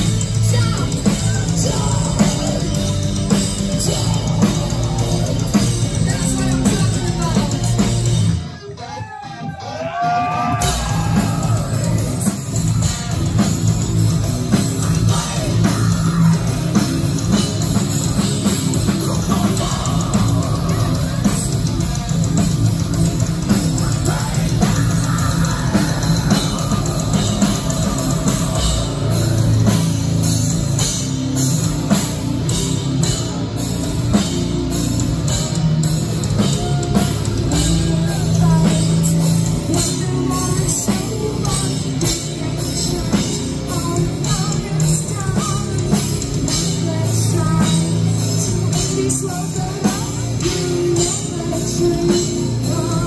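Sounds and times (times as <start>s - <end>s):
bass guitar: 0.0s - 53.0s
distorted guitars: 0.0s - 53.0s
metal band playing live: 0.0s - 53.0s.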